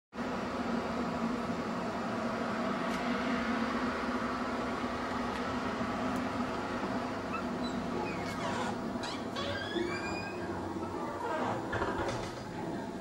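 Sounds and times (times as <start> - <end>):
droning hum with hiss: 0.2 - 13.0.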